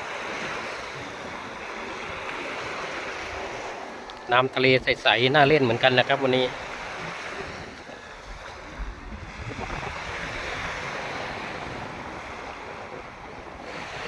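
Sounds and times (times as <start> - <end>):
sea surf washing onto beach: 0.0 - 14.0
wind on microphone: 0.0 - 14.0.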